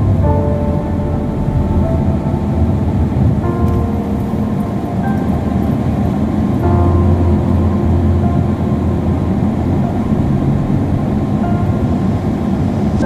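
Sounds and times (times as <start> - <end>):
car driving low rumble: 0.0 - 13.0
faint background music: 0.0 - 13.0.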